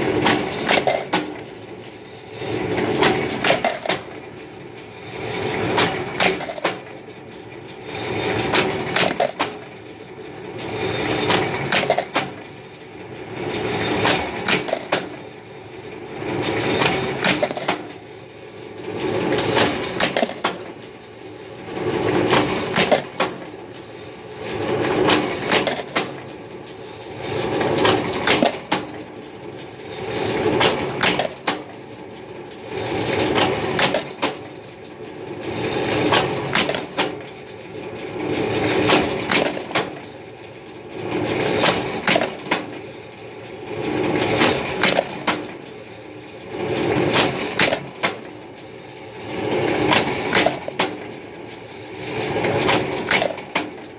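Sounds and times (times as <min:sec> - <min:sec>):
workshop machine cycling: 0:00.0 - 0:53.9.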